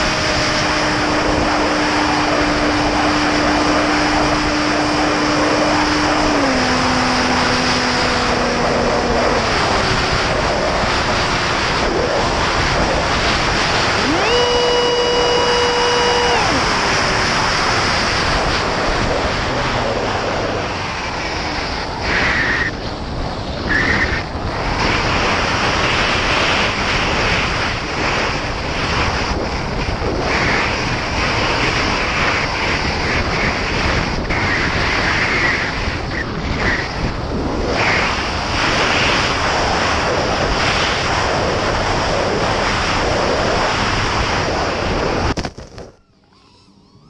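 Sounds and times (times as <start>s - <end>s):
electric motor and propeller whine: 0.0s - 47.0s
wind rushing over camera: 0.0s - 47.0s.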